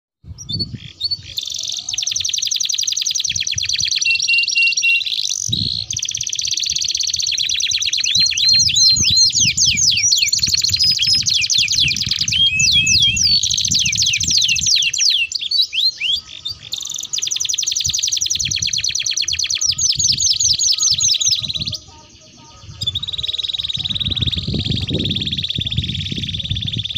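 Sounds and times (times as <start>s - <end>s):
canary singing rolling trills: 0.3s - 26.9s.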